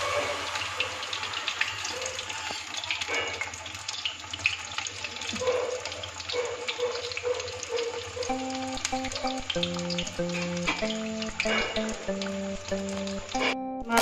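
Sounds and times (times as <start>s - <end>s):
deep-frying sizzle with pops: 0.0s - 14.0s.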